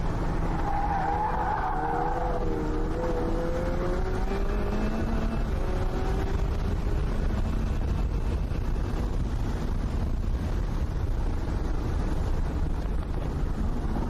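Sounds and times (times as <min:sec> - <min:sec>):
race car engine and wind rumble: 0:00.0 - 0:14.0.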